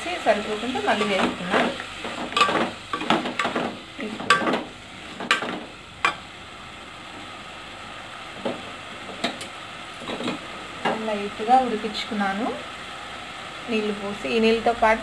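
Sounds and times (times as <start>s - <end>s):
faint sizzle of curry cooking: 0.0s - 15.0s.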